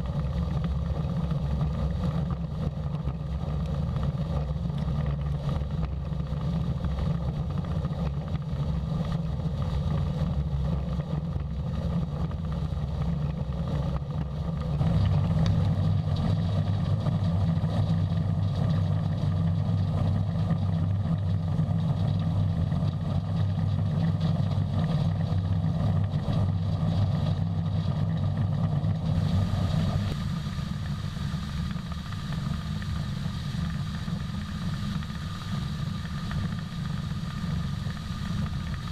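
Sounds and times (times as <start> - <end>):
diesel farm machinery engine: 0.0 - 38.9.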